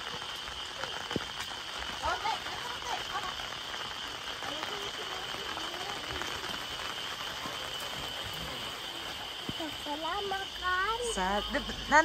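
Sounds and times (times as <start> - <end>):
high-pitched insect drone: 0.0 - 12.0
light rain hissing: 0.0 - 12.0.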